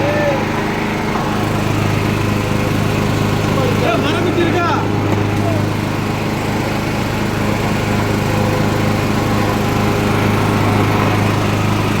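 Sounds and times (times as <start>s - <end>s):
wood chipper engine running: 0.0s - 12.0s.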